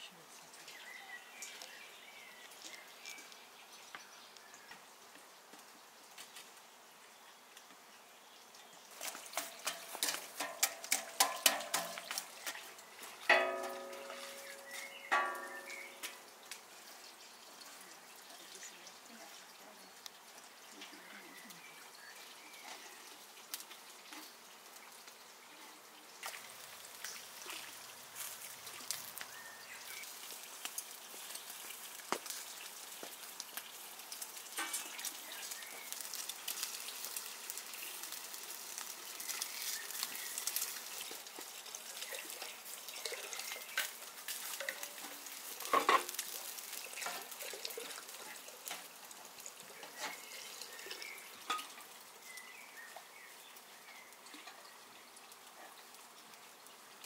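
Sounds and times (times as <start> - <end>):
kebabs sizzling on barbecue: 0.0 - 57.0.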